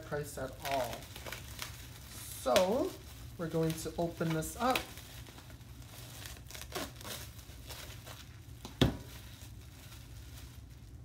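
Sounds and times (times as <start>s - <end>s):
plastic wrap crinkling: 0.0s - 11.0s
plastic wrap snapping: 0.0s - 11.0s.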